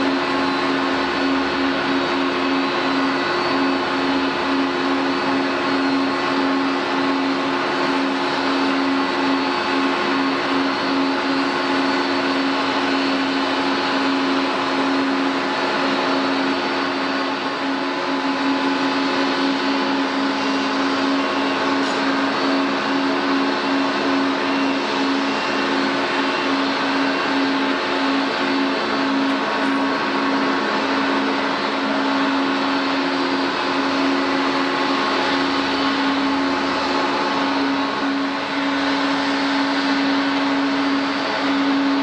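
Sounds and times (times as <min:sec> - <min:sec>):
airliner turbine running: 0:00.0 - 0:42.0.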